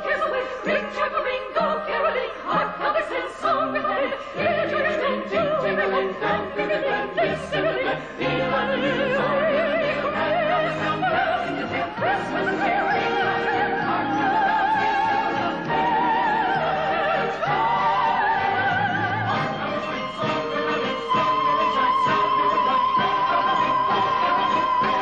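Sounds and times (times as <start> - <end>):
orchestra: 0.0 - 25.0
soprano singing with vibrato: 0.0 - 25.0.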